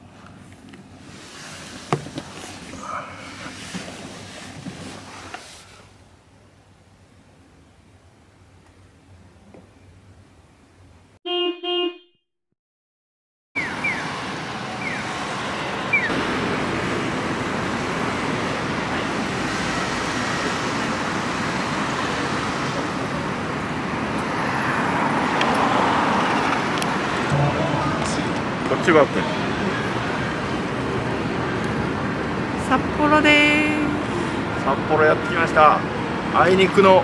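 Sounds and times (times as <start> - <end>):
city street traffic: 0.0 - 12.1, 13.6 - 37.0.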